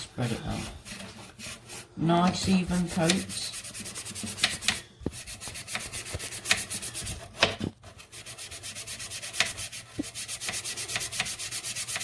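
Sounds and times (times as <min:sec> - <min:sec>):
scrubbing plastic with powder: 0:00.0 - 0:12.0.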